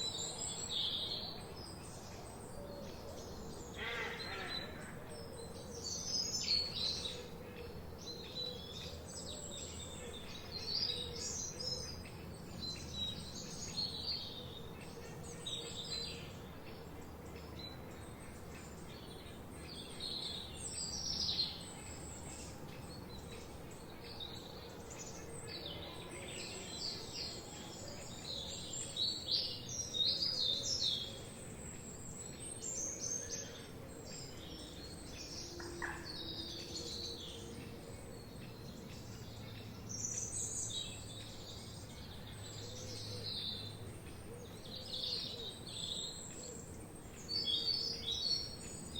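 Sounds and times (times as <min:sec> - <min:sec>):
low background hiss: 0:00.0 - 0:48.9
songbirds singing and chirping: 0:00.0 - 0:48.9.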